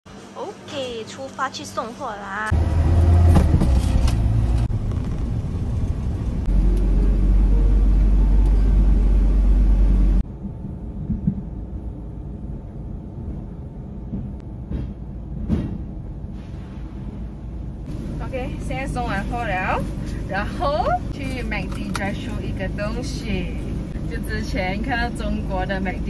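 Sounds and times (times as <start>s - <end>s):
lorry engine rumbling: 1.7s - 26.0s.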